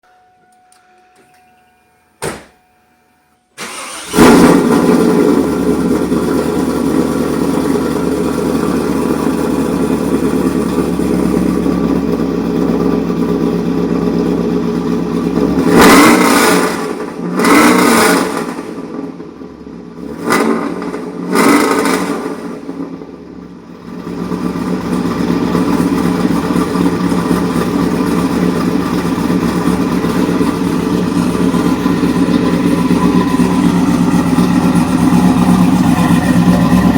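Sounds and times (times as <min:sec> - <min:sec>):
car engine starting and revving: 0:03.6 - 0:23.2, 0:23.8 - 0:36.9.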